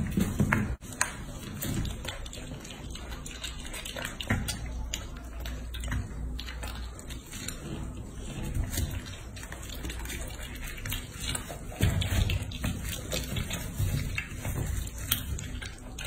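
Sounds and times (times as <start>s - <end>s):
pig chewing and slurping: 0.0s - 16.0s.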